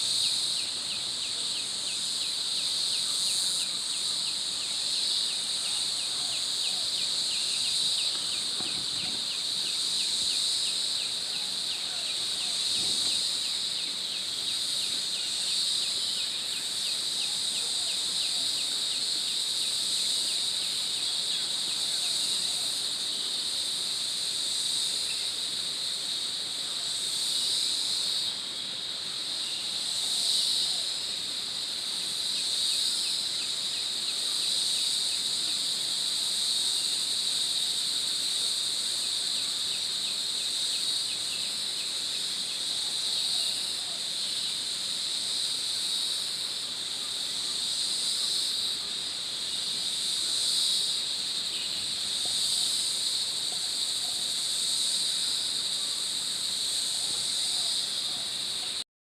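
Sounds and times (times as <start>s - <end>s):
high-pitched insect chorus: 0.0s - 58.8s.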